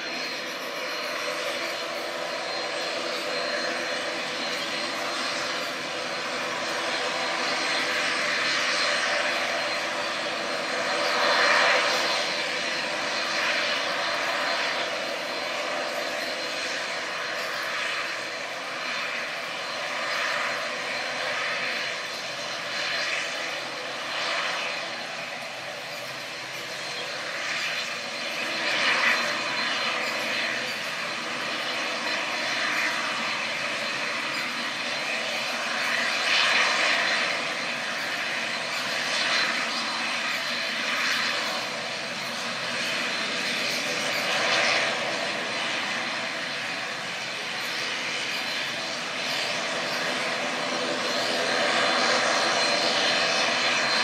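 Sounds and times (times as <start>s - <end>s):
turboprop engines whining: 0.0s - 54.0s.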